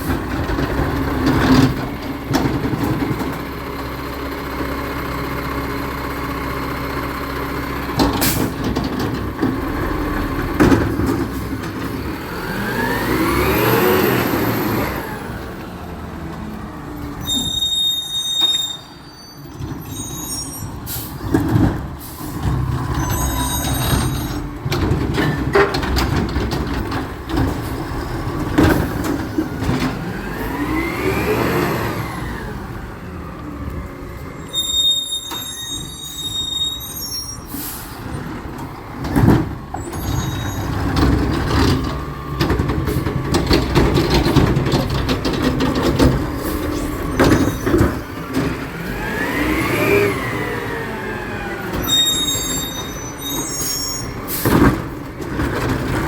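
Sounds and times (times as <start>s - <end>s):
diesel truck engine revving: 0.0s - 17.2s, 25.4s - 34.5s, 37.4s - 56.0s.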